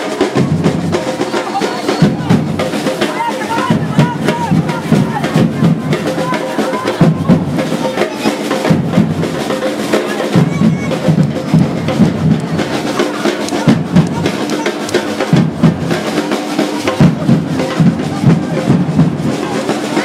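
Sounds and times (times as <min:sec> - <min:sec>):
drum group playing: 0:00.0 - 0:20.0.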